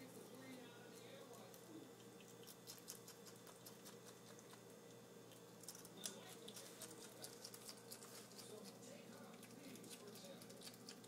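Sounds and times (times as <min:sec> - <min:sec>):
skunk chewing clicks: 0:01.4 - 0:11.0.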